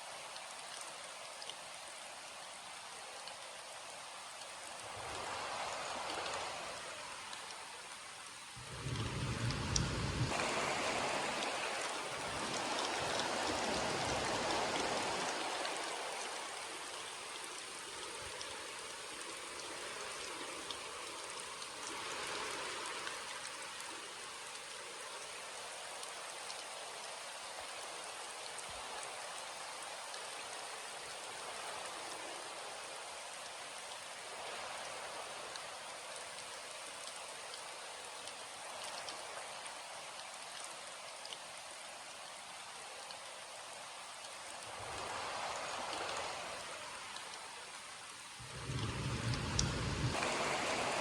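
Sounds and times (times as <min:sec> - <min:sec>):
rain pattering on surfaces: 0:00.0 - 0:51.0.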